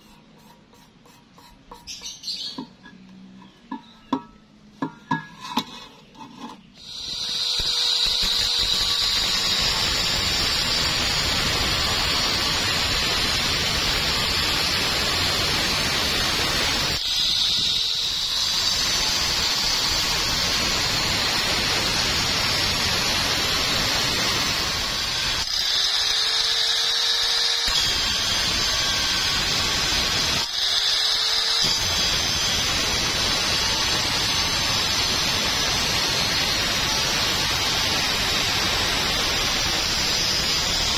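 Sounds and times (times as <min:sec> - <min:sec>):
angle grinder cutting steel: 0:05.6 - 0:40.9.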